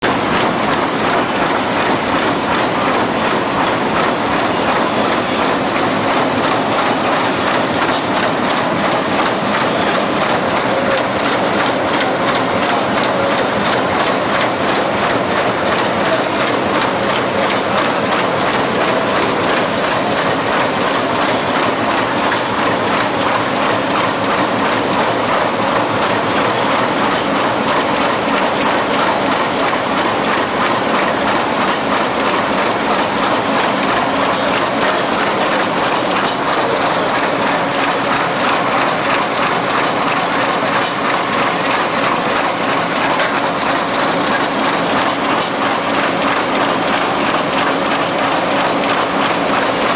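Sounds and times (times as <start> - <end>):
sewing machine rapid clatter: 0.0 - 49.9.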